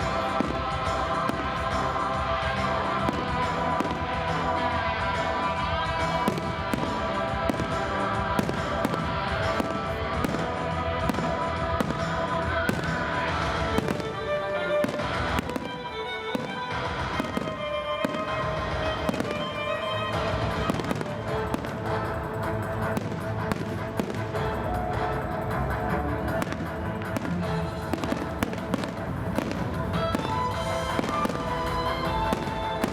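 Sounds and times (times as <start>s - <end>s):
fireworks bangs and crackles: 0.0s - 32.9s
music playing: 0.0s - 32.9s.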